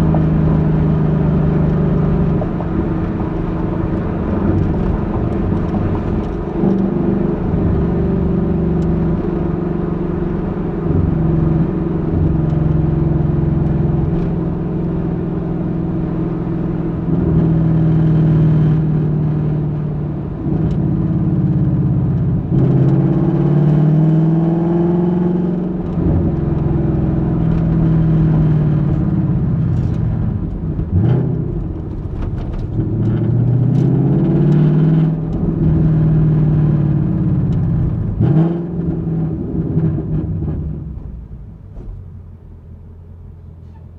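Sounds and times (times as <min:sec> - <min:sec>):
car exhaust accelerating: 0:00.0 - 0:43.9.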